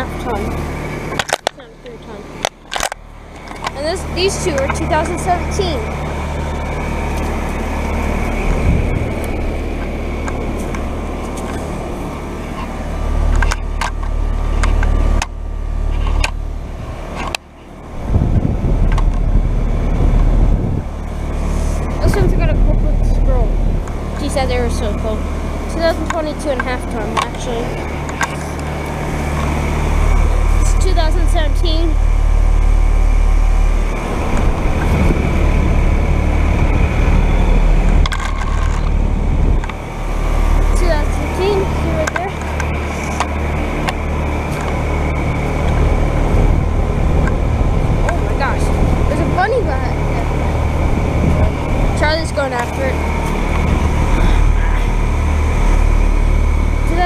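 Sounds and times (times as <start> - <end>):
rough crackling: 0.0 - 56.9
heat pump units humming: 0.0 - 57.0.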